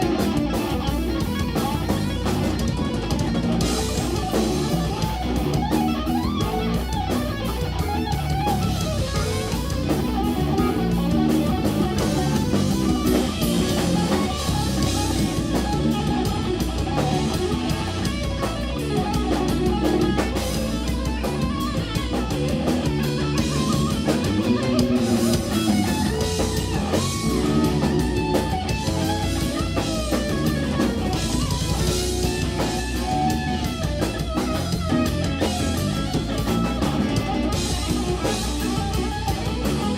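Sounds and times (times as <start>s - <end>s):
bass guitar: 0.0s - 39.9s
drum kit: 0.0s - 39.9s
electric guitar lead lines: 0.0s - 39.9s.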